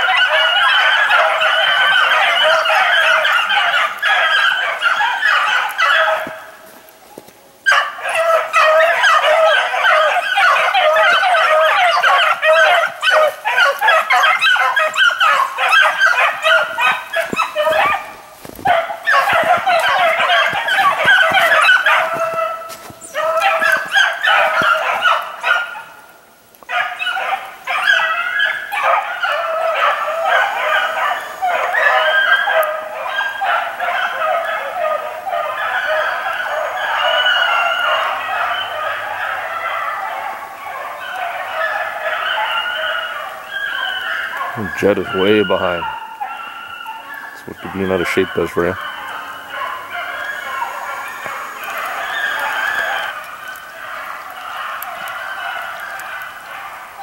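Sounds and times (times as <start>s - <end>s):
dogs barking and yelping: 0.0s - 57.0s.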